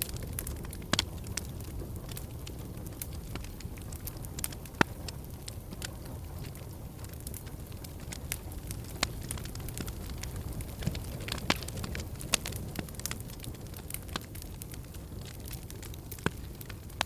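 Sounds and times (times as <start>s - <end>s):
fire pops and crackles: 0.0s - 17.0s
low rumble of flames: 0.0s - 17.0s.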